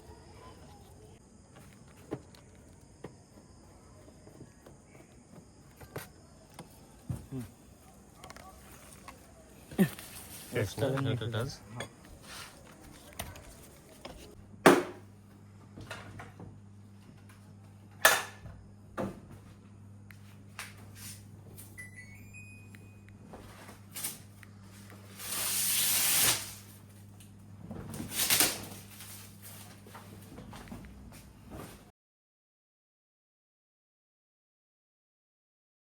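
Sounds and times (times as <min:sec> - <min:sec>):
low electrical hum: 0:00.0 - 0:31.9.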